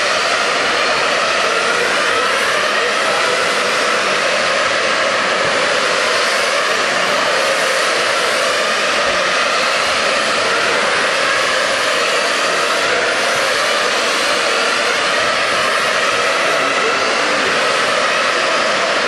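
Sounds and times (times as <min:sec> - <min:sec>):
rushing whoosh with whine: 0:00.0 - 0:19.0.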